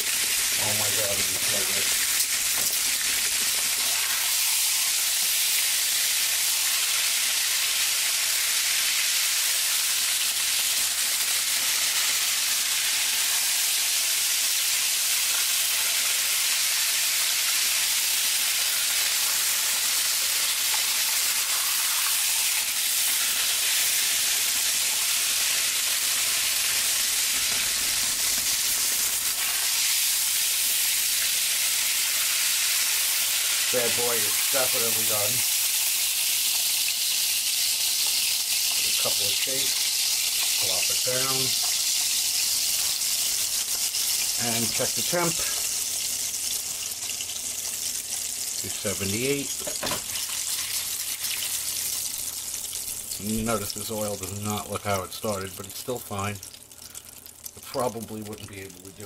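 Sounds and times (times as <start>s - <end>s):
cutlet sizzling in hot oil: 0.0s - 59.0s.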